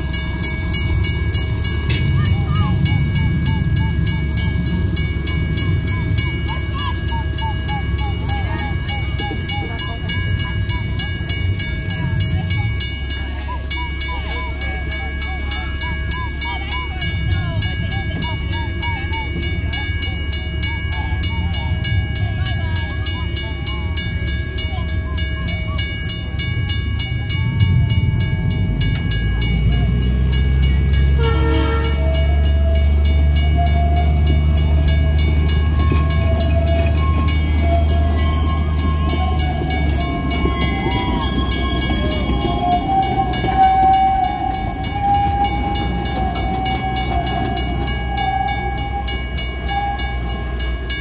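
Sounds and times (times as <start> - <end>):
wavering squeal: 0.0 - 24.2, 29.0 - 51.0
crossing bell ringing: 0.0 - 51.0
train cars rumbling past: 0.0 - 51.0.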